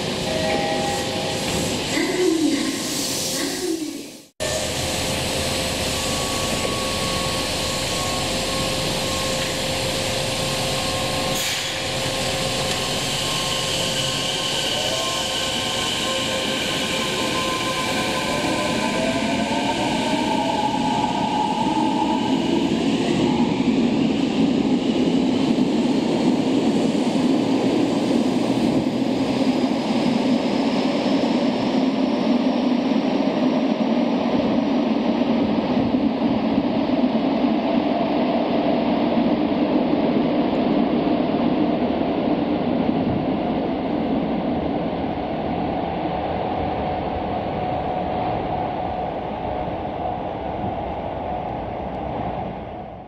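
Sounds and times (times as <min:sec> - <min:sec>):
subway train wheels rumbling: 0:00.0 - 0:53.0.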